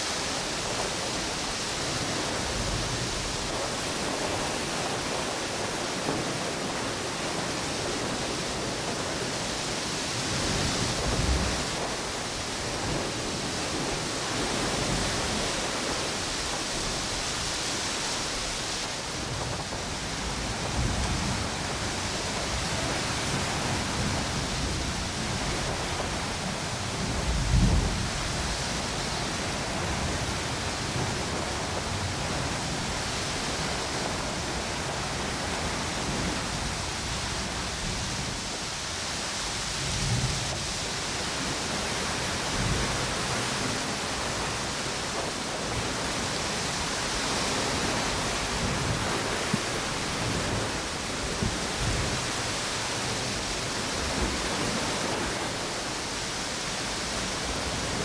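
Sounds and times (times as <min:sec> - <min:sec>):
ocean waves washing on beach: 0:00.0 - 0:58.0
wind: 0:00.0 - 0:58.0.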